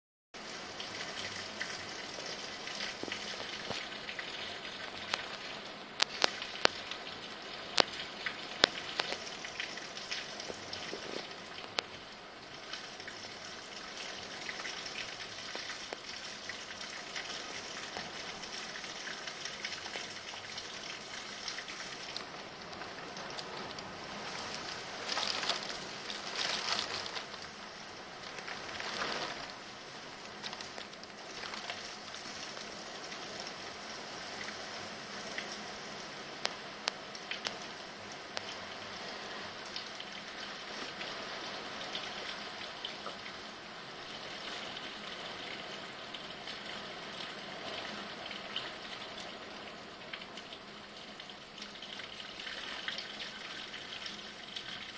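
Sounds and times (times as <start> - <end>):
heavy rain pouring: 0.4 - 54.9
raindrops ticking close: 0.5 - 54.9.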